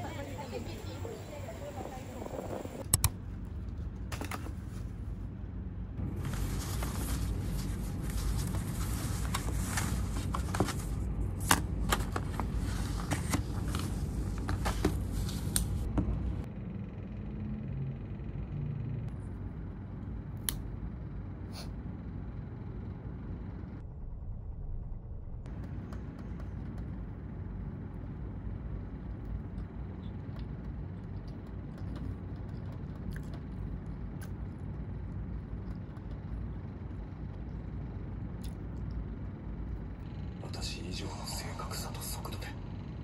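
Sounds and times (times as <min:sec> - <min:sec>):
low background rumble: 0:00.0 - 0:43.0.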